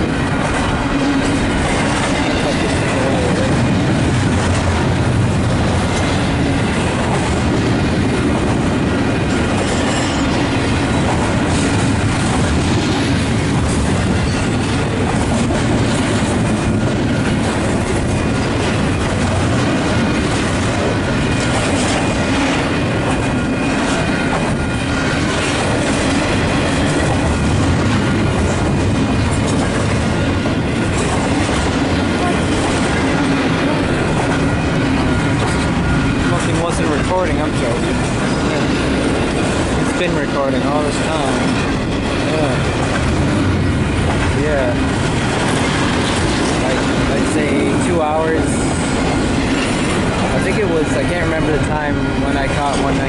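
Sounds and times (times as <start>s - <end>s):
wheels clicking over rail joints: 0.0s - 53.0s
wind buffeting microphone: 0.0s - 53.0s.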